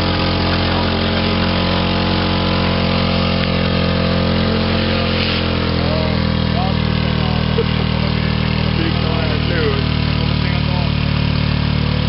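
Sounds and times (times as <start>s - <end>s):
car engine running steadily: 0.0s - 12.0s.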